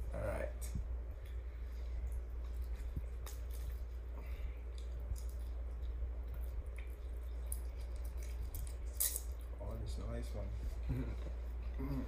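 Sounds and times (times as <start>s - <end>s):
low hum: 0.0s - 12.0s
chewing with wet squishes: 0.6s - 12.0s.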